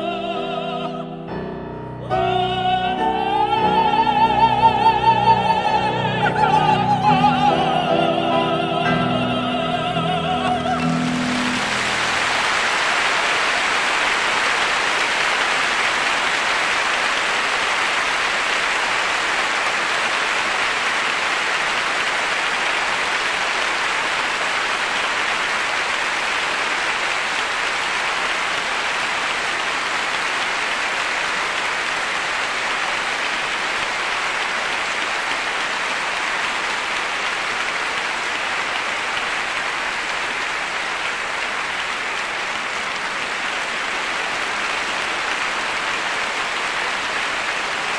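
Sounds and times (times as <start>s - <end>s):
audience applauding: 2.4s - 47.9s.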